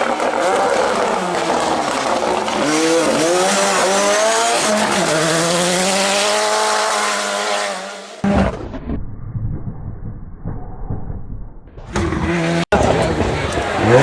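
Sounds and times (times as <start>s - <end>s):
rally car engine accelerating: 0.0s - 9.0s, 10.4s - 14.0s.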